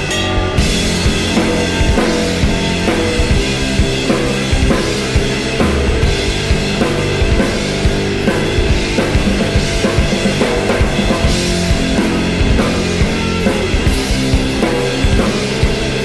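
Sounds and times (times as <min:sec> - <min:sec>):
drum kit beat: 0:00.0 - 0:16.0
rock band playing live: 0:00.0 - 0:16.0.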